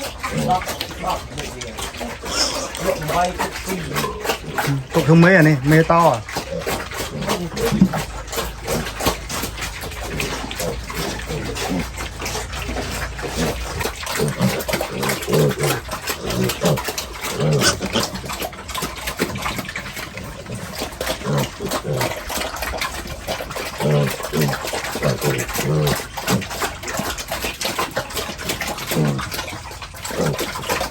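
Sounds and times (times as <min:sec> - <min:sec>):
pigs grunting: 0:00.0 - 0:30.9.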